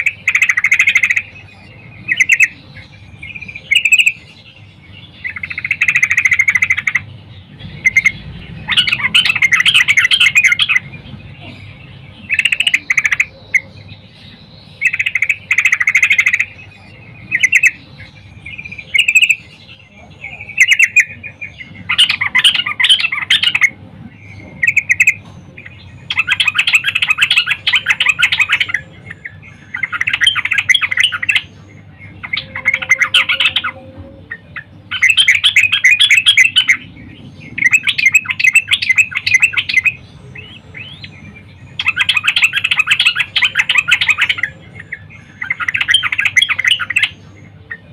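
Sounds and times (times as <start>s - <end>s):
bird chattering calls: 0.0s - 47.9s.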